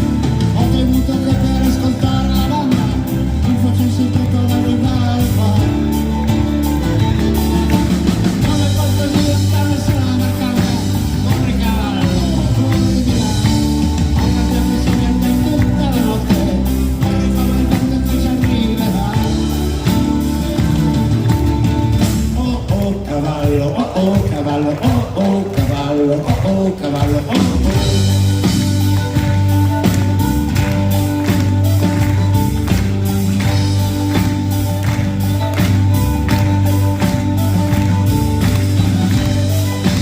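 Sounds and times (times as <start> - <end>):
rock band playing live: 0.0 - 40.0.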